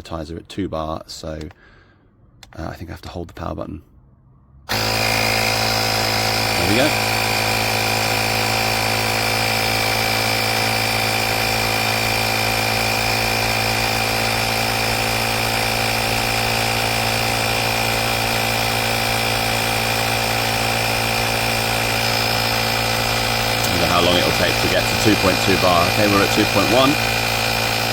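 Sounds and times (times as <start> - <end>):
air compressor running: 4.7 - 27.9
constant high whine: 4.7 - 27.9.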